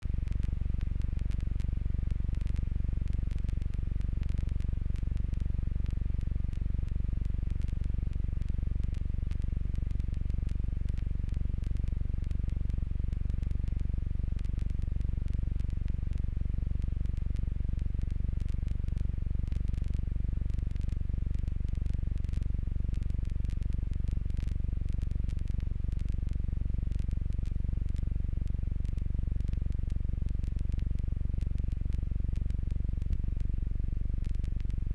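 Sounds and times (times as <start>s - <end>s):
faint clicks and crackle: 0.0s - 34.9s.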